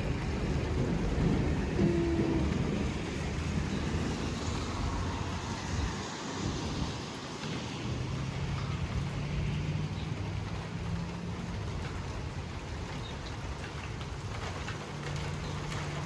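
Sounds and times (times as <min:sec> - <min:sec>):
rain: 0:00.0 - 0:16.0
vehicle engine humming: 0:00.0 - 0:16.0
wind: 0:00.0 - 0:16.0.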